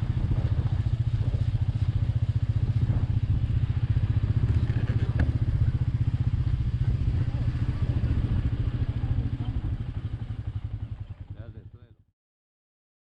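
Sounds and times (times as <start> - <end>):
motorcycle engine thumping: 0.2 - 11.4.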